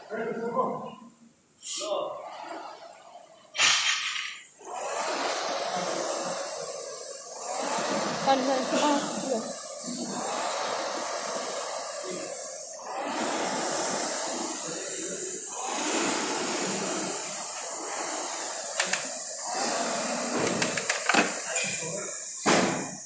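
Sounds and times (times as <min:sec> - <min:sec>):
rowing machine fan whirring: 0:00.0 - 0:23.0.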